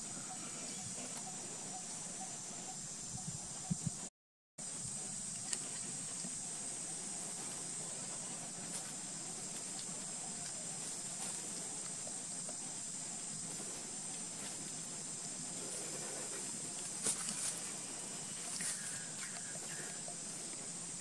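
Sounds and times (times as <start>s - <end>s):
high-pitched hiss: 0.0s - 21.0s.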